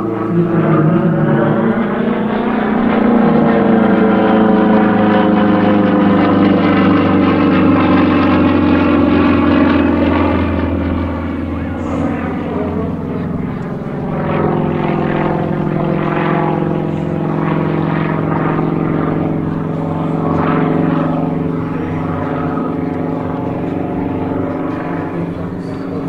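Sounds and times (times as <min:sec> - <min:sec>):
propeller plane engine overhead: 0:00.0 - 0:26.0.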